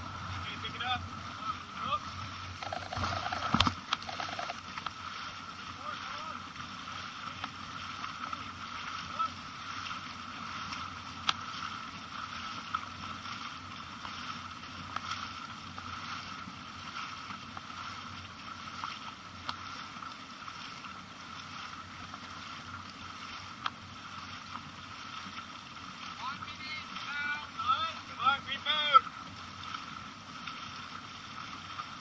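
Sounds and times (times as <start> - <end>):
water splashing from paddling: 0.0 - 32.0.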